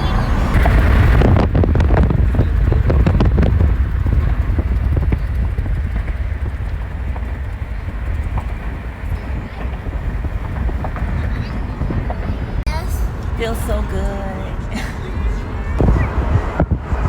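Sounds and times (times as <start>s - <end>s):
car road rumble: 0.0s - 17.0s
wind buffeting microphone: 0.0s - 17.0s.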